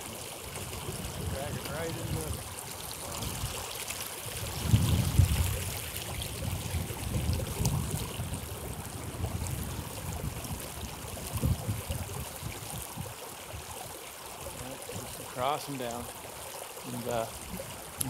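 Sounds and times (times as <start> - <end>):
river water flowing and rippling: 0.0 - 18.0.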